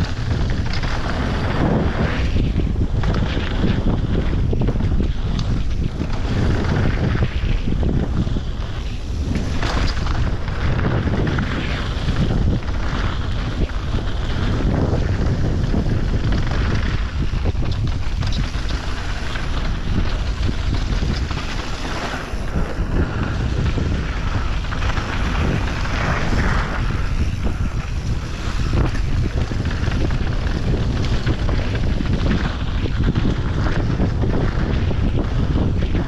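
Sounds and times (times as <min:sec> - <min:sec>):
bike rattling and knocking: 0:00.0 - 0:36.0
wind rushing over microphone: 0:00.0 - 0:36.0.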